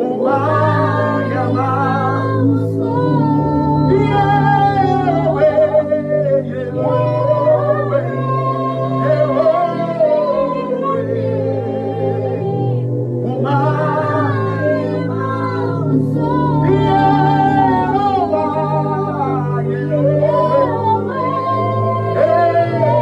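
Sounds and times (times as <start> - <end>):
held low chords: 0.0 - 23.0
person singing: 0.0 - 23.0.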